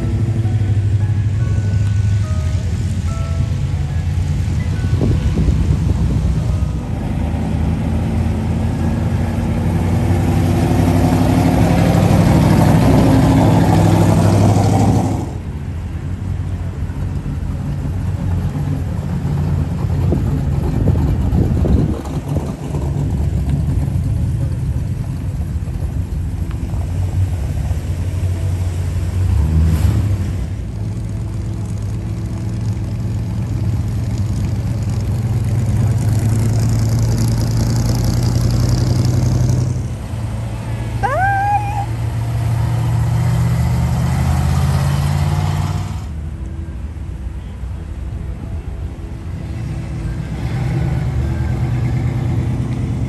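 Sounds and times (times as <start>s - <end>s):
cars rolling past: 0.0s - 53.0s.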